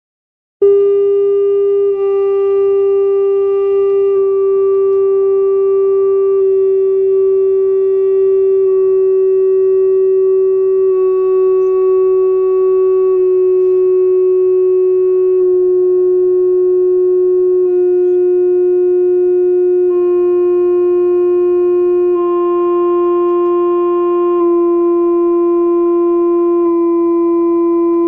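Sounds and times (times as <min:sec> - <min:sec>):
electronic tone from loudspeaker: 0:00.6 - 0:28.0.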